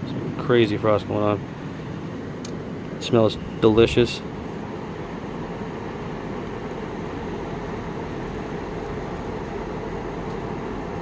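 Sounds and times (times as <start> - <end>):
low hum: 0.0 - 11.0
ventilation fans whooshing: 0.0 - 11.0.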